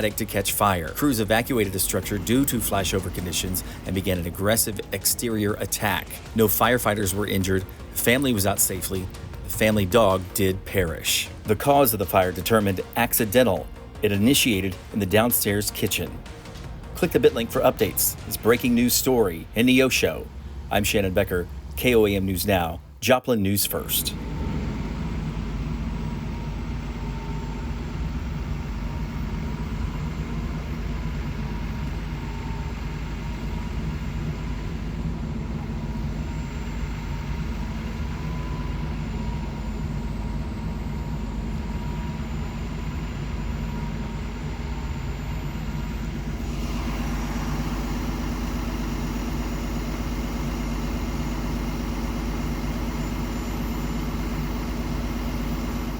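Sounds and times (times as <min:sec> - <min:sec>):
diesel engine idling: 0:00.0 - 0:23.1, 0:23.7 - 0:55.9.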